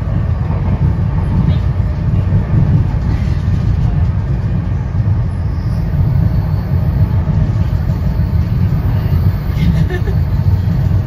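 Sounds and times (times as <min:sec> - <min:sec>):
train coach rumbling at speed: 0:00.0 - 0:11.0.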